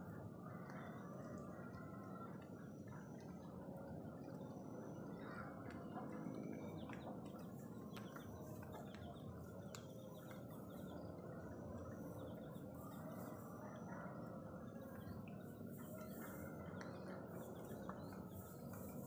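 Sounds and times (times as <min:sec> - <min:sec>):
birds chirping: 0:02.4 - 0:19.0.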